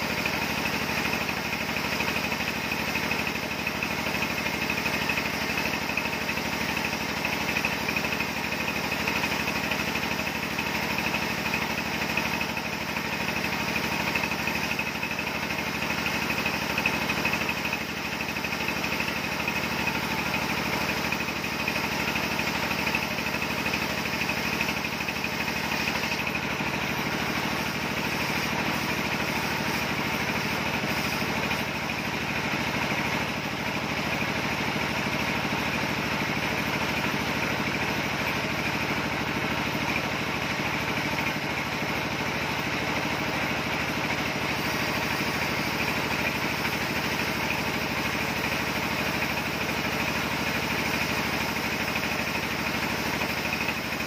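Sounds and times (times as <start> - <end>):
sawmill machine drone: 0.0 - 54.0.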